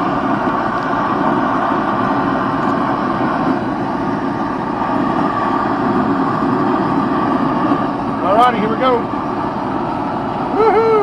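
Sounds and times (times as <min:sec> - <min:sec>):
forge burner rushing: 0:00.0 - 0:11.0.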